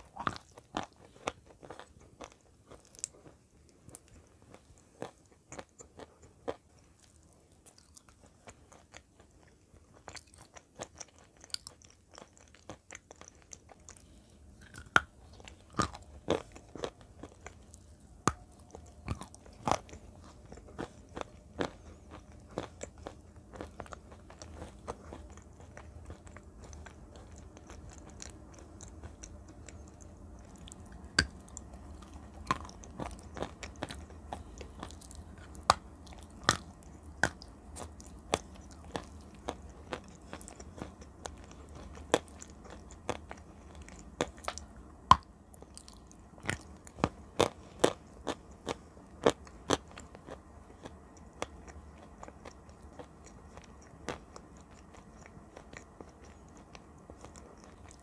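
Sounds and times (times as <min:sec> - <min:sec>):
clay crunching while chewing: 0:00.0 - 0:58.0.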